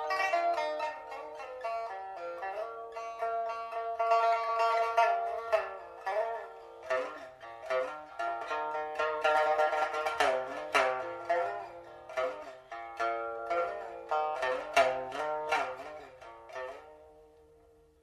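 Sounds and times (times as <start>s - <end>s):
plucked pipa notes: 0.0s - 18.0s.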